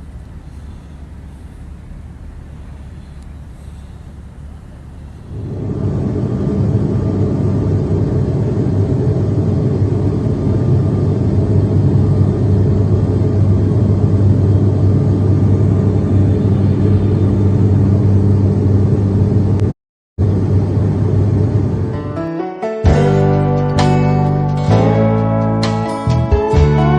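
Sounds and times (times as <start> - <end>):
ship engine deep drone: 0.0 - 26.9.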